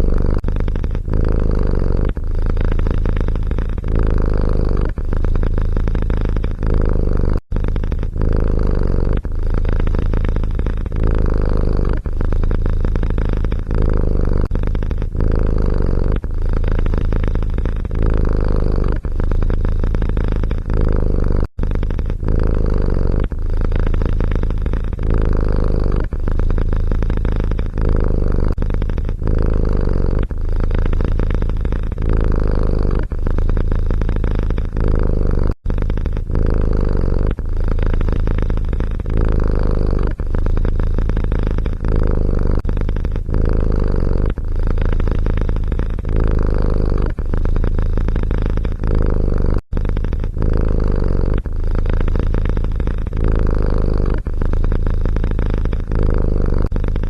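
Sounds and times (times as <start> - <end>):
cat purring: 0.0 - 57.0.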